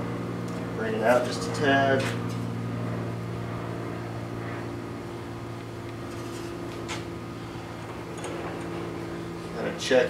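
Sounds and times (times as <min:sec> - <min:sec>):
motor humming: 0:00.0 - 0:09.8.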